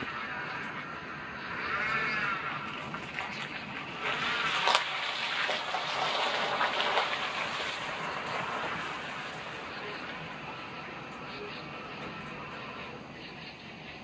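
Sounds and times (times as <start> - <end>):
car tyres hissing on wet road: 0.0 - 14.0
rain falling: 0.0 - 14.0.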